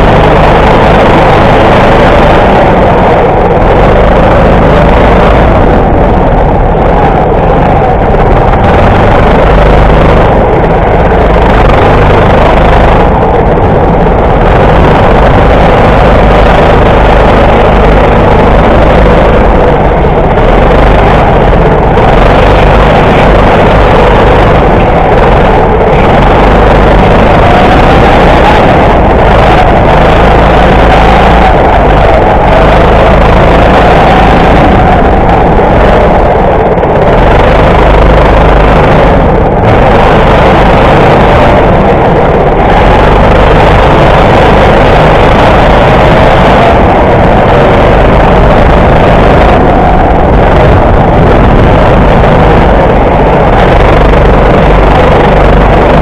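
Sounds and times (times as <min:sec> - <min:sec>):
go-kart engine at speed: 0:00.0 - 0:56.0.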